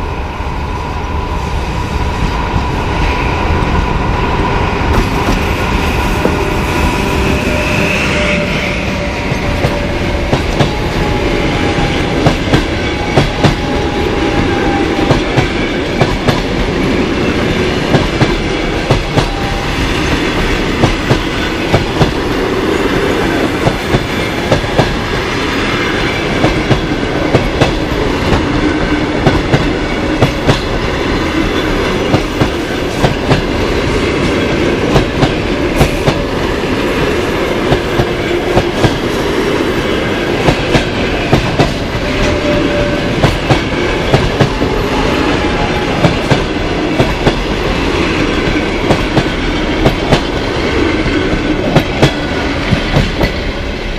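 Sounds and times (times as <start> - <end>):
train coaches rumbling past: 0.0 - 53.9.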